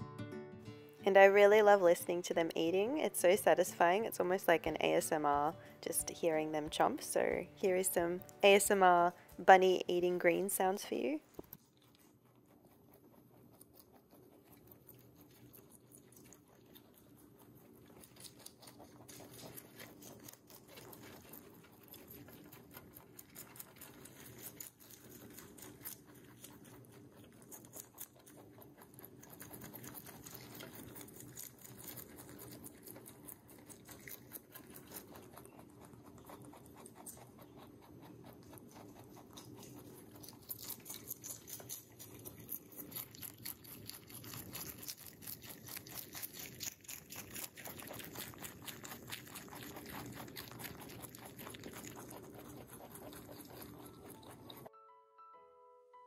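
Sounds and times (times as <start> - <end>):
rabbits chewing leaves: 1.0 - 54.7.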